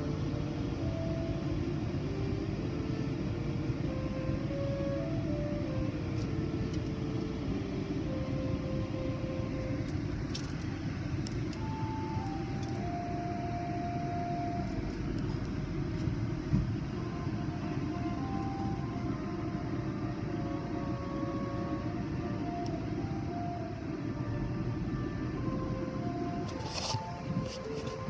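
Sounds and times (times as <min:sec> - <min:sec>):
car wash machinery rumbling: 0:00.0 - 0:28.0.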